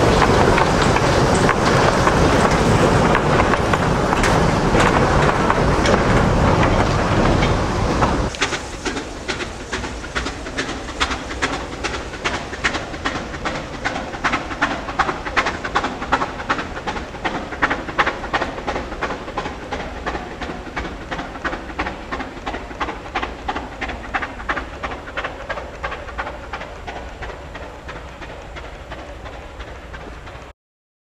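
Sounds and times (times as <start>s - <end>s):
train wheels clicking over rail joints: 0.0s - 30.5s.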